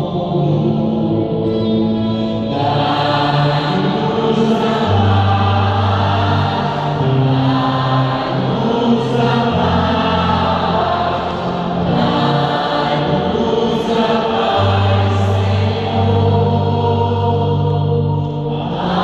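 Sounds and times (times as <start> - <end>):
women's choir singing hymn: 2.3 - 19.0.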